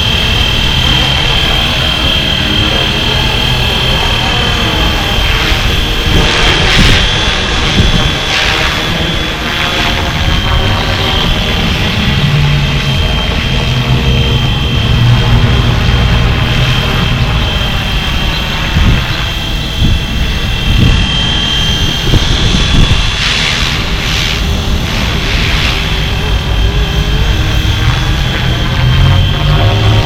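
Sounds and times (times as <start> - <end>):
hissy surges: 0.0 - 30.0
rc helicopter motor whine: 0.0 - 30.0.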